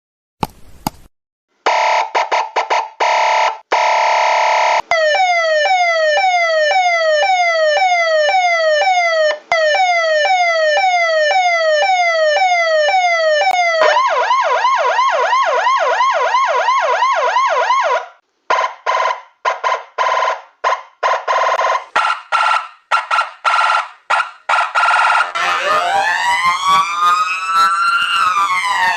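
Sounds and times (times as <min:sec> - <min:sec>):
emergency vehicle siren: 0:01.7 - 0:28.9.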